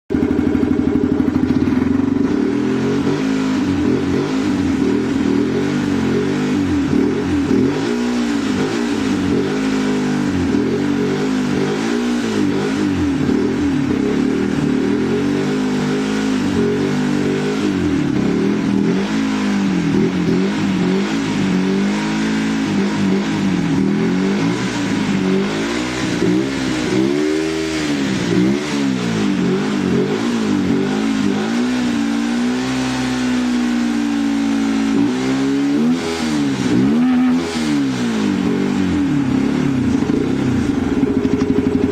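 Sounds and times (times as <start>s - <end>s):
motorcycle engine revving: 0.1s - 41.9s.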